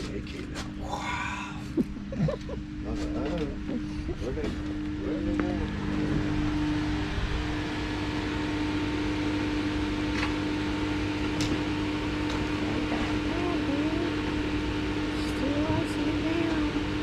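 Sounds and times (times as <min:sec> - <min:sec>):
refrigeration equipment humming: 0:00.0 - 0:17.0.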